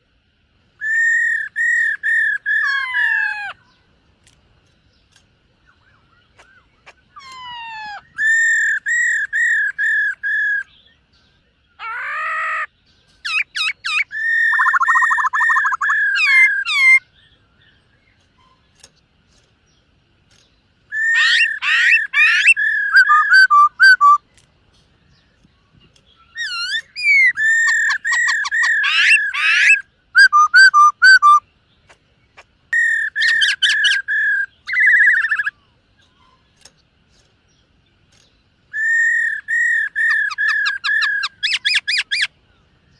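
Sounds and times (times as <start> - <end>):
bird singing whistled notes: 0.8 - 3.9, 4.9 - 18.7, 20.4 - 24.4, 25.0 - 31.6, 32.7 - 36.4, 38.2 - 42.9.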